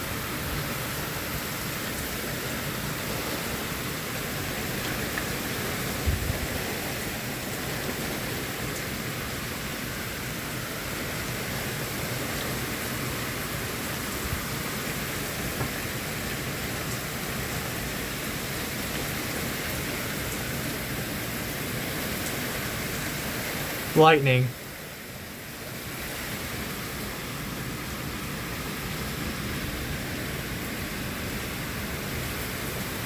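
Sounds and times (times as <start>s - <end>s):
rain falling steadily: 0.0s - 33.0s.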